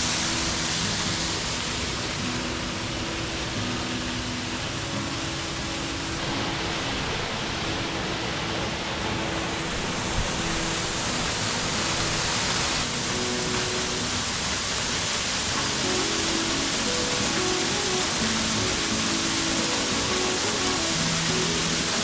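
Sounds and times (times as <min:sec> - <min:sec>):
waterfall pouring: 0:00.0 - 0:22.0.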